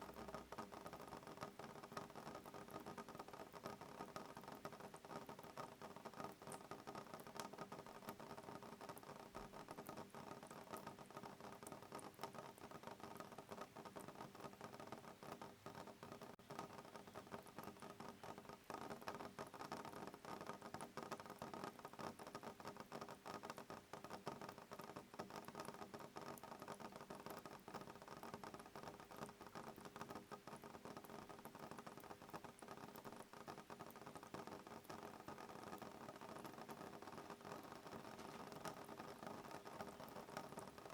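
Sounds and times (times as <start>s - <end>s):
rain pattering on window: 0.0s - 40.9s.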